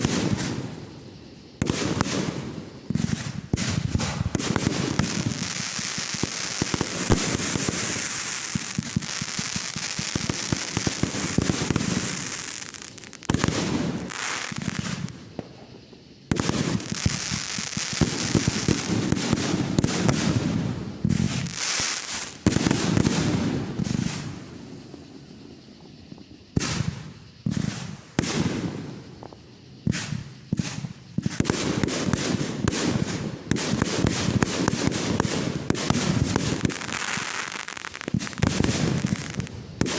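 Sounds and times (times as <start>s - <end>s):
fireworks popping: 0.0s - 1.0s, 1.6s - 39.9s
firework bangs: 0.0s - 39.9s.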